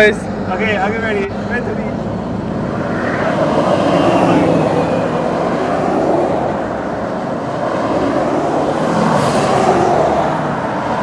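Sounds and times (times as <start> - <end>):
pickup trucks driving past: 0.0 - 11.0.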